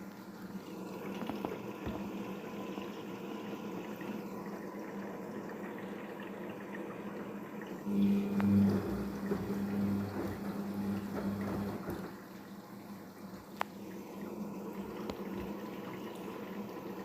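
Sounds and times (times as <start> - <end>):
washing machine low hum: 0.0 - 17.0
water rushing into washing machine: 0.0 - 17.0.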